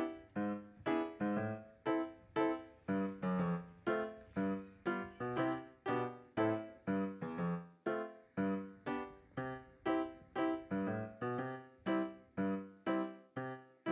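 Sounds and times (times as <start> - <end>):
slow keyboard tune: 0.0 - 13.9.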